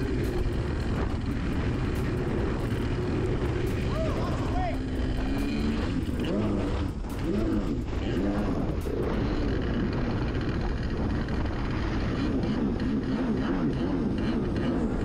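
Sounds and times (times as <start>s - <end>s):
jet ski engine running hard: 0.0s - 15.0s.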